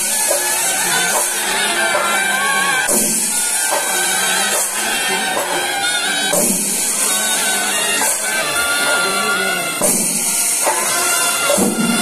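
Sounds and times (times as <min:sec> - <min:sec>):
hand cymbals clashing: 0:00.0 - 0:12.0
high wind instrument: 0:00.0 - 0:12.0.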